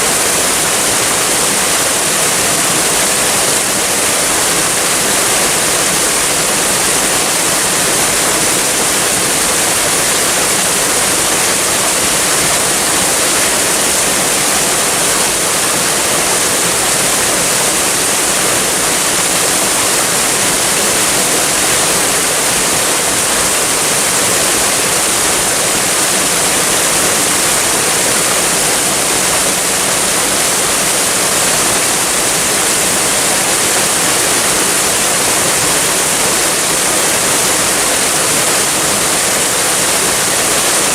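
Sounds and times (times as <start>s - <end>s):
waterfall splashing: 0.0s - 40.9s.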